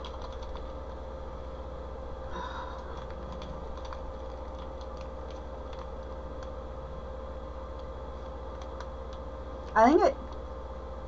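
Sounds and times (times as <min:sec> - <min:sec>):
background hum with steady tone: 0:00.0 - 0:11.0.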